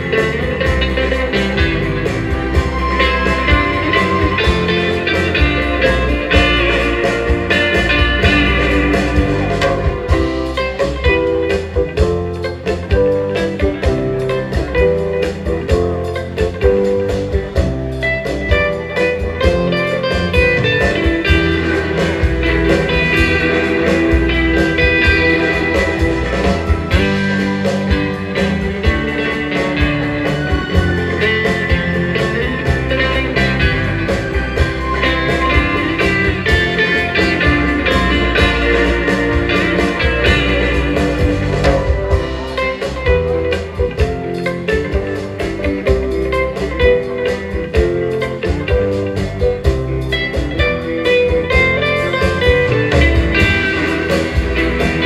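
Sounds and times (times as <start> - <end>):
bass guitar: 0.0 - 55.0
electric guitar melody: 0.0 - 55.0
steady drum beat: 0.0 - 55.0.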